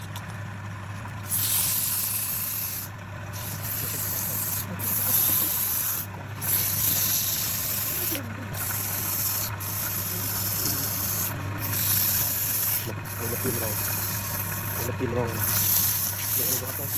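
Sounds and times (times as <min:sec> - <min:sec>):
lathe motor hum: 0:00.0 - 0:16.9
tool hissing against spinning wood: 0:01.2 - 0:16.9.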